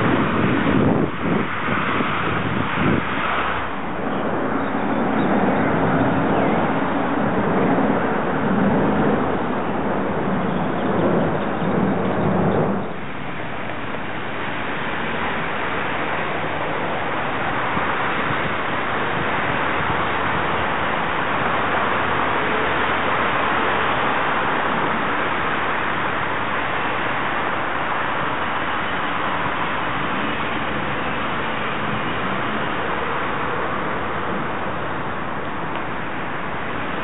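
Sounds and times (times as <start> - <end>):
rushing city ambience: 0.0 - 37.0.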